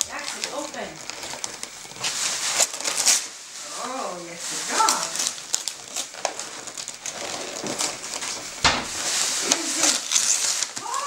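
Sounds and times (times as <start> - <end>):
wrapping paper crinkling and tearing: 0.0 - 11.0.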